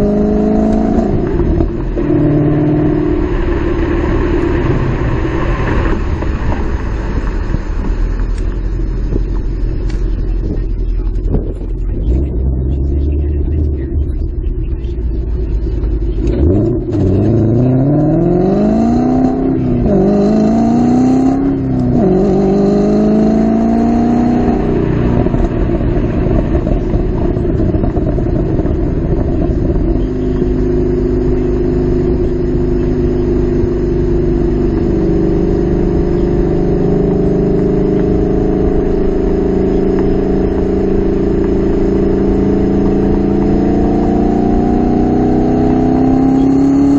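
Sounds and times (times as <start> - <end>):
car engine rumbling and accelerating: 0.0 - 46.9.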